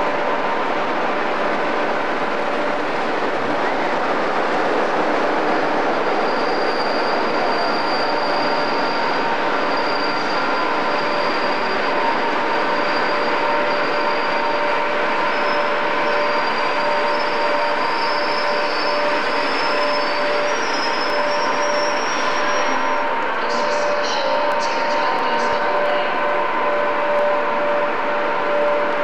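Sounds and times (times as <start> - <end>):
train wheels rumbling on rails: 0.0 - 29.0
high-pitched squeal: 5.4 - 29.0.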